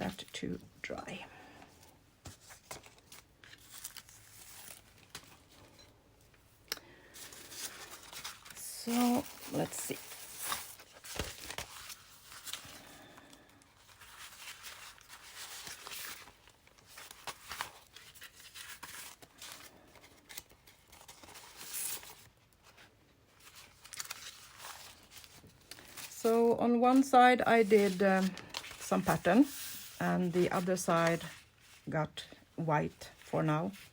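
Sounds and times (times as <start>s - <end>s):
paper rustling and crinkling: 1.5s - 6.4s, 7.0s - 33.9s
sharp paper handling sounds: 2.2s - 5.8s, 7.1s - 31.9s.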